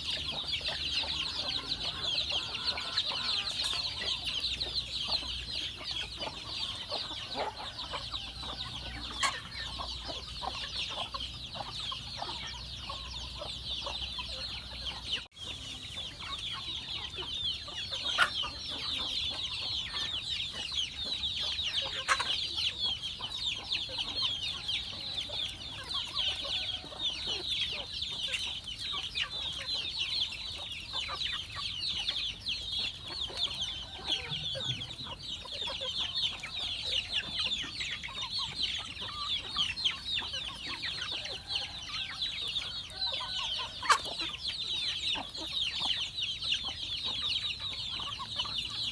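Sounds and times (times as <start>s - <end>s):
flock of chickens calling: 0.0s - 48.9s.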